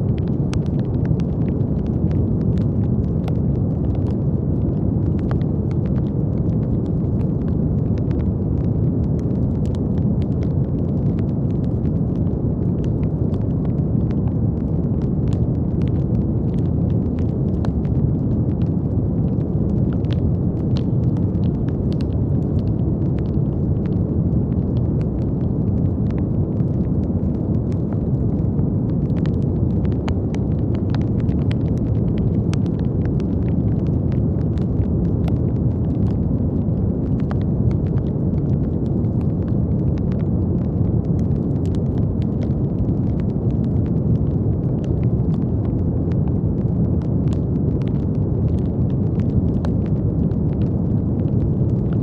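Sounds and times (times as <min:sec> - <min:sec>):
brown noise hiss: 0:00.0 - 0:52.0.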